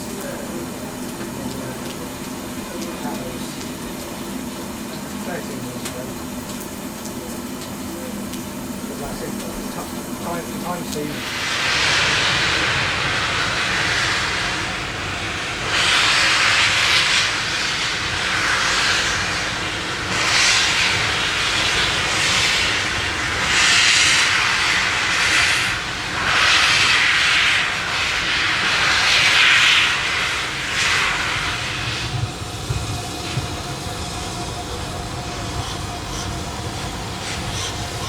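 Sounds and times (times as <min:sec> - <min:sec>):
steam locomotive steam blasts: 0:00.0 - 0:38.0.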